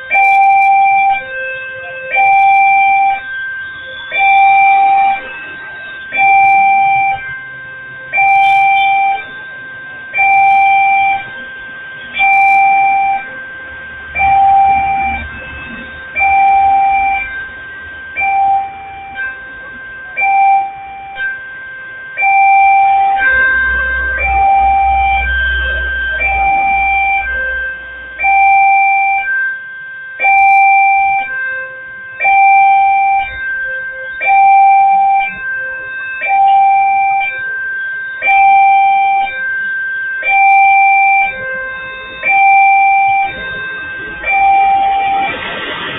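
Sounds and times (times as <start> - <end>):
level crossing warning alarm: 0.0 - 45.9.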